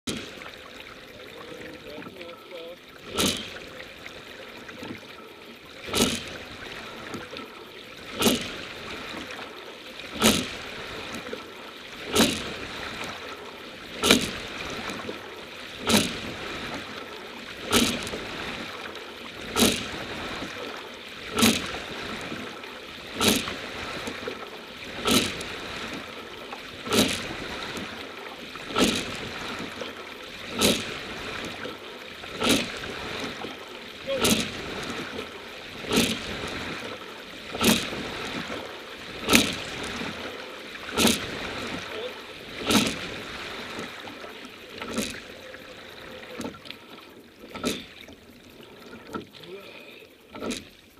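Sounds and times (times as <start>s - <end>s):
oars knocking and splashing: 0.0s - 50.9s
water rushing along hull: 0.0s - 50.9s.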